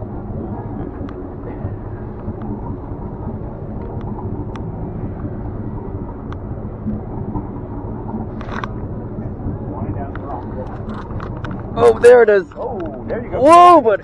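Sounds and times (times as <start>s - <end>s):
boat engine running: 0.0s - 14.0s
wind on microphone: 0.0s - 14.0s.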